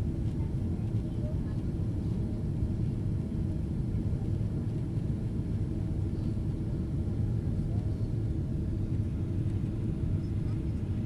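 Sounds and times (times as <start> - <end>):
low rumble of engines and airflow: 0.0 - 11.0.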